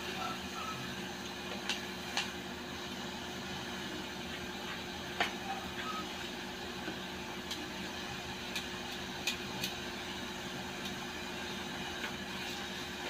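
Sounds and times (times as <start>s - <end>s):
pork fat sizzling in a pot: 0.0s - 13.0s.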